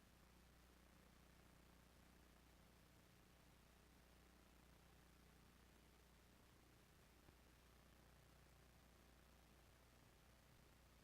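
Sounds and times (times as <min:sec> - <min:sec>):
faint low hum with hiss: 0:00.0 - 0:11.0.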